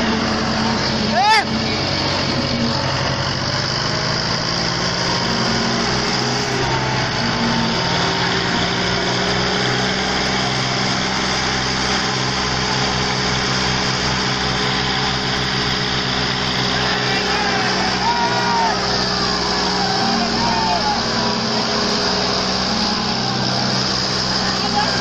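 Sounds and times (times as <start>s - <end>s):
tractor engine rumbling under load: 0.0s - 25.0s.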